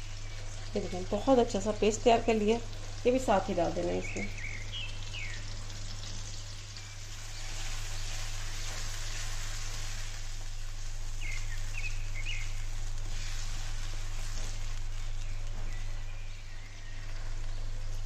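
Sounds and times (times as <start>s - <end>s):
masala sizzling while stirred: 0.0s - 18.0s.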